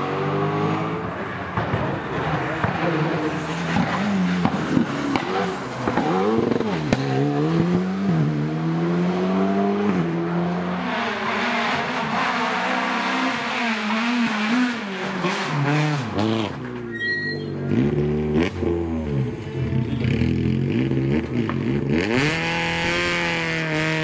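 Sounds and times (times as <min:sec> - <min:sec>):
car engine accelerating through gears: 0:00.0 - 0:01.2, 0:02.2 - 0:16.7, 0:17.6 - 0:24.0.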